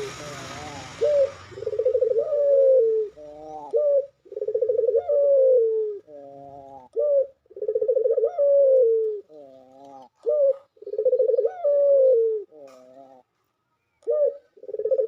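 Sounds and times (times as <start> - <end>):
dove cooing: 0.0 - 13.3, 14.0 - 15.0.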